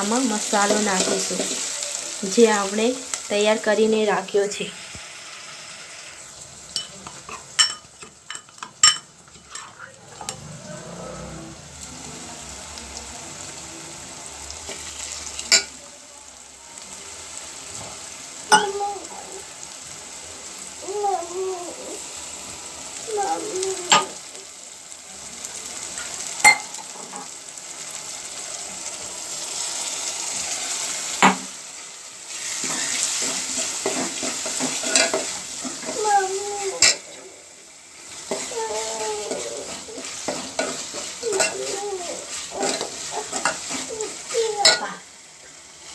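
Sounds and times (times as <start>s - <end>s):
onions sizzling in hot oil: 0.0s - 45.9s.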